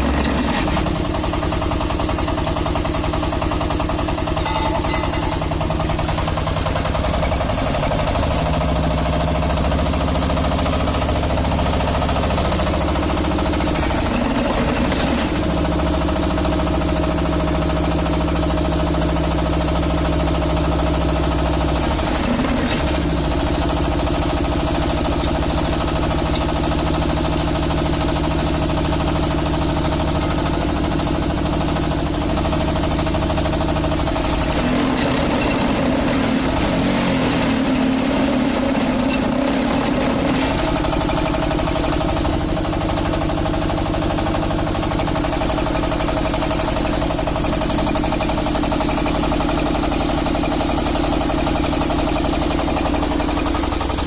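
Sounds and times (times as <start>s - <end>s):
diesel engine running with knocking: 0.0s - 54.0s.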